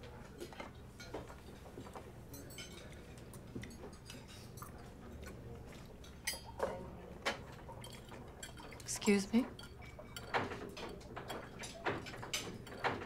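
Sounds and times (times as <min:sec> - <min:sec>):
cutlery and dishes clinking: 0:00.3 - 0:13.0.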